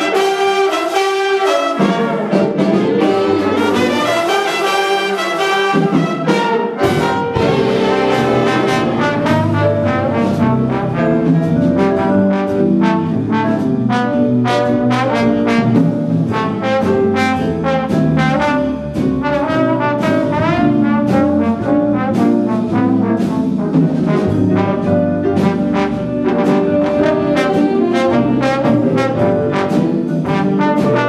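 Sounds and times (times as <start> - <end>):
cymbals and drums beat: 0.0 - 31.0
jazz big band playing blues: 0.0 - 31.0
trombone solo: 0.0 - 31.0.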